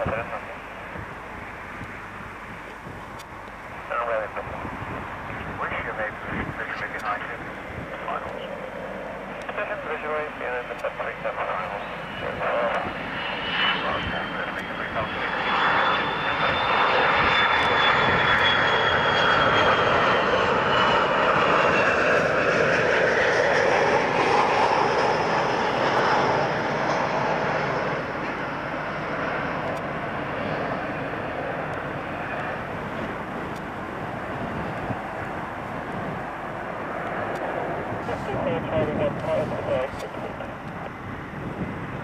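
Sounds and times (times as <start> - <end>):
jet engines passing low: 0.0 - 42.0.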